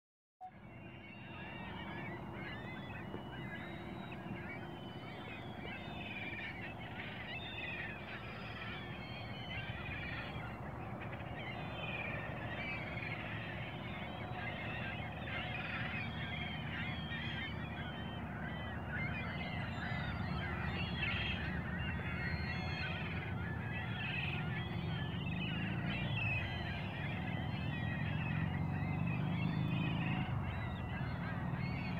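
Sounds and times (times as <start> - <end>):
flock of geese calling: 0.4 - 31.9.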